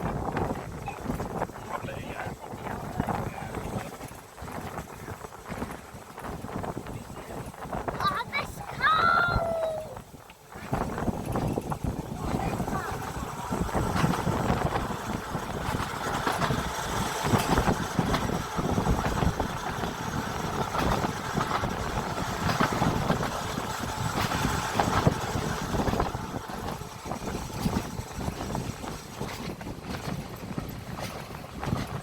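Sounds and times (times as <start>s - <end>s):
tram rumbling on track: 0.0s - 32.0s.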